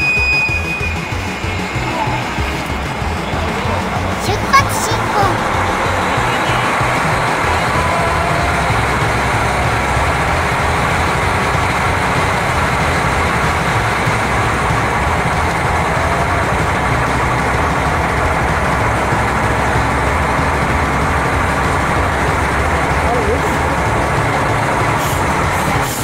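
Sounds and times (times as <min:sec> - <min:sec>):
diesel railcar engine running: 0:00.0 - 0:26.0.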